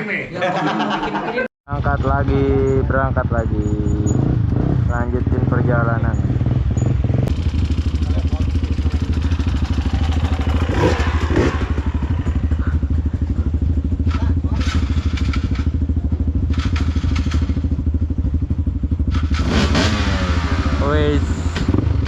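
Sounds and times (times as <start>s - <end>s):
motorcycle engine rumbling: 1.7s - 22.0s.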